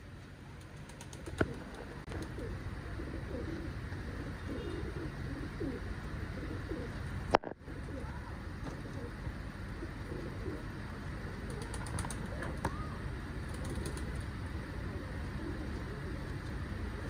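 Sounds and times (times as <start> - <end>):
pigeons cooing: 0.7 - 17.0.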